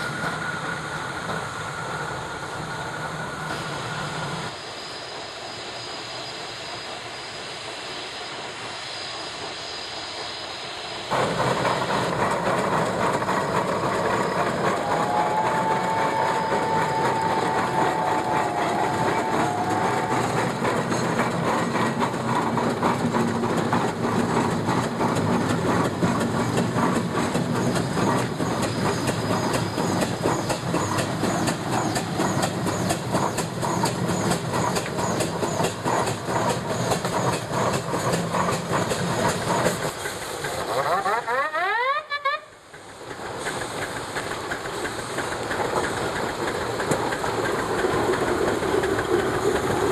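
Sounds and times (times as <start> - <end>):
steam traction engine clatter: 0.0 - 49.9.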